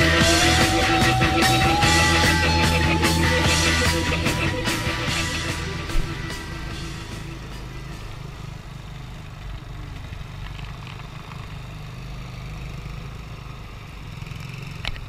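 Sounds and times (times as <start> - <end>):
scooter engine running: 0.0 - 15.0.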